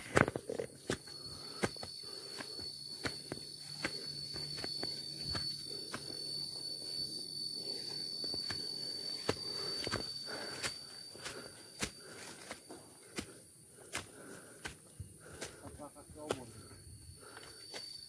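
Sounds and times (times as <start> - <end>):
footsteps crunching on path: 0.0 - 18.0
insect trilling: 0.0 - 18.0.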